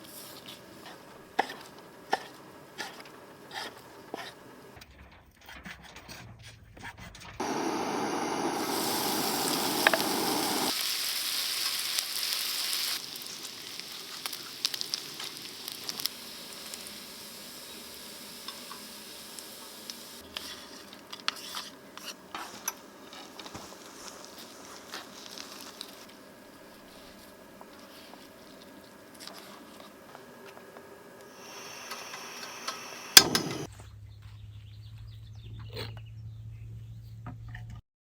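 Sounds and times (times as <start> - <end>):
food sizzling in a pan: 0.0 - 4.7, 7.4 - 30.6, 31.2 - 33.7.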